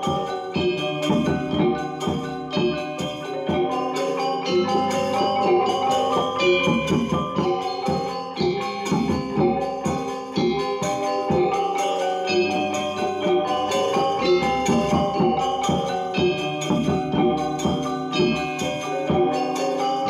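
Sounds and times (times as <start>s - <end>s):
gamelan ensemble playing: 0.0s - 20.0s.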